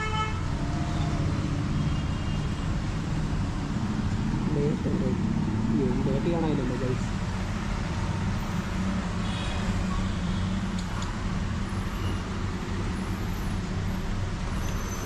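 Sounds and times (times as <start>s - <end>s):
traffic engine rumble: 0.2s - 15.0s.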